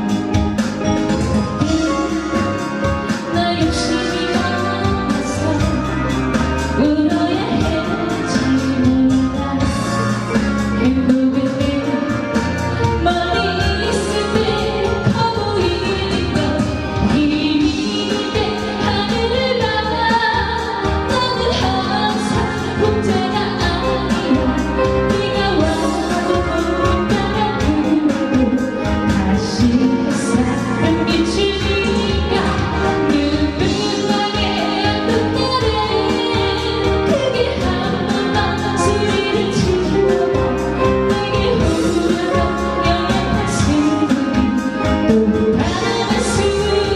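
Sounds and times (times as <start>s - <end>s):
band accompaniment with drum beat: 0.0s - 46.9s
woman singing pop ballad: 0.0s - 46.9s.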